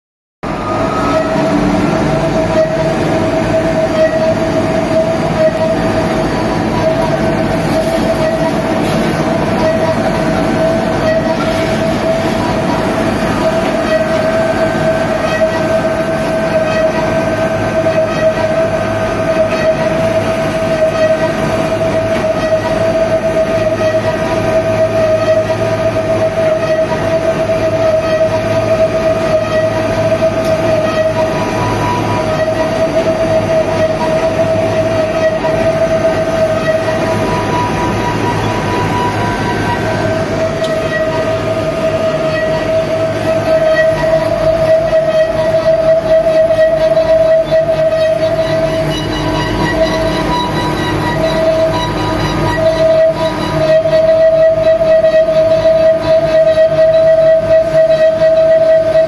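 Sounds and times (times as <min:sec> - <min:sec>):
spice grinder whining and grinding: 0:00.5 - 0:59.0.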